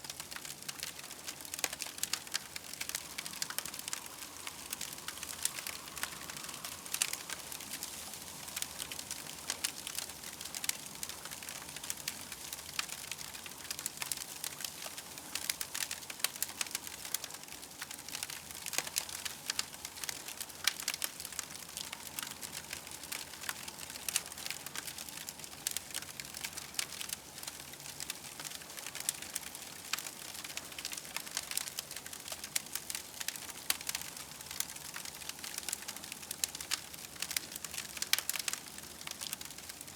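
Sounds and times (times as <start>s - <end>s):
campfire crackling: 0.1s - 39.9s.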